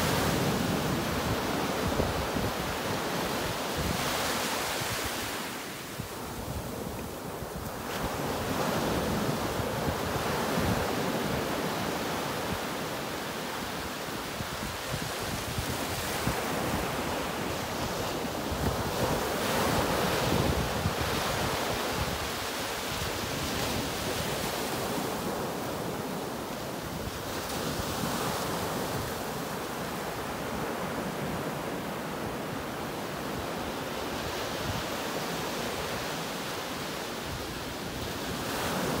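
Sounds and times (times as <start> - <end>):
waves breaking on beach: 0.0 - 39.0.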